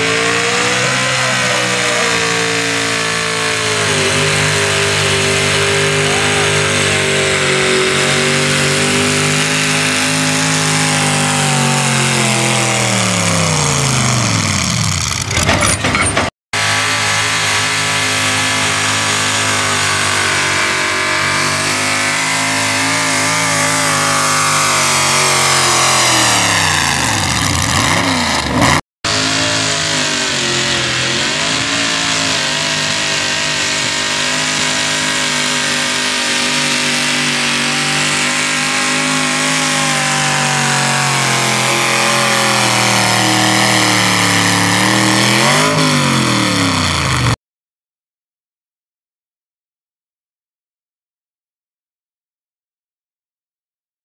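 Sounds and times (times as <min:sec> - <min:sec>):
truck engine at high revs: 0:00.0 - 0:47.4.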